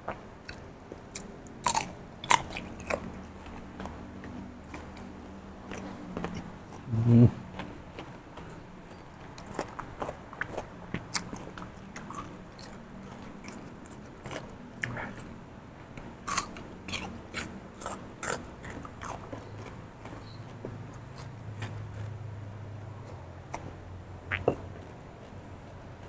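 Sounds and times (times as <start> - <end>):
crunchy cucumber chewing: 0.0 - 15.3, 16.2 - 22.2.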